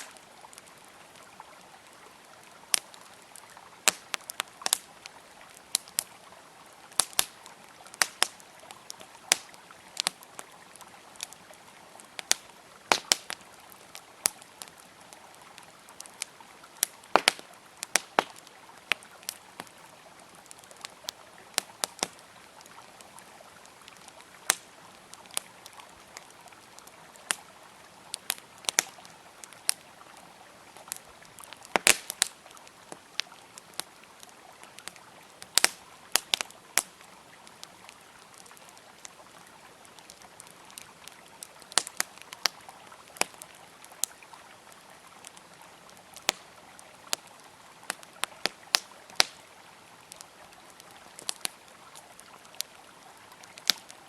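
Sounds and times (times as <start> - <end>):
campfire crackling and popping: 0.0 - 54.0
river flowing: 0.0 - 54.0.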